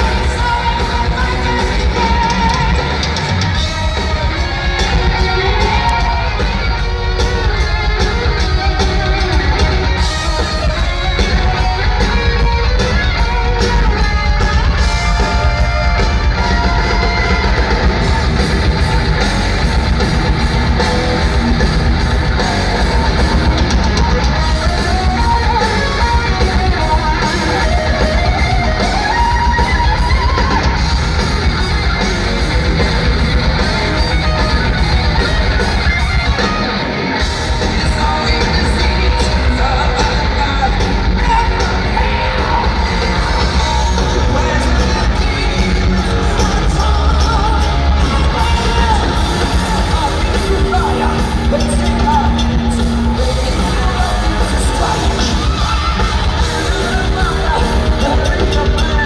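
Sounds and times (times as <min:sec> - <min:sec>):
heavy metal band playing: 0:00.0 - 0:59.0
lead electric guitar: 0:00.0 - 0:59.0.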